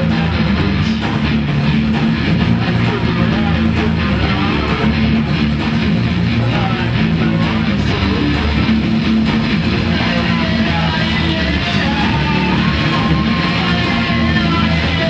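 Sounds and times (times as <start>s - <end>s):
bass guitar notes: 0.0s - 15.0s
electric guitar chords: 0.0s - 15.0s
live rock band playing: 0.0s - 15.0s.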